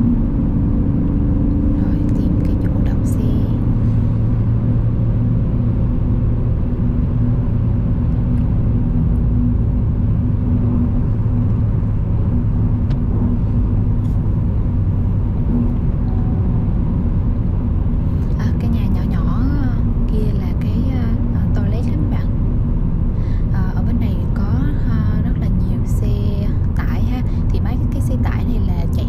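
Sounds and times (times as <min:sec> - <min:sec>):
car engine drone: 0:00.0 - 0:29.0
tyre and road rumble: 0:00.0 - 0:29.0.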